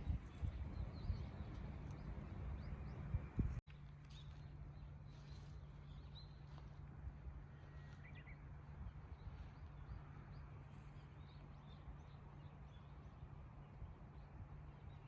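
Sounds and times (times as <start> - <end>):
bird chirps and tweets: 0.0 - 6.7, 7.5 - 13.2
low outdoor hum: 0.0 - 15.0.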